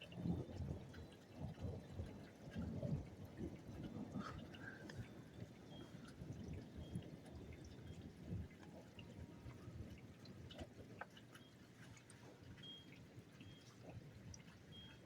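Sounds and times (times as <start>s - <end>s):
faint rain dripping: 0.0s - 15.0s.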